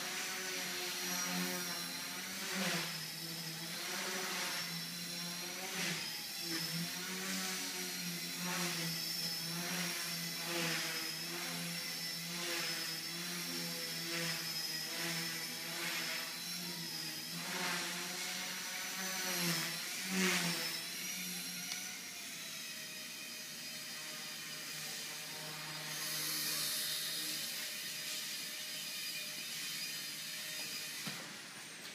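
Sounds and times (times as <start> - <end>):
rc helicopter buzzing whine: 0.0 - 31.9.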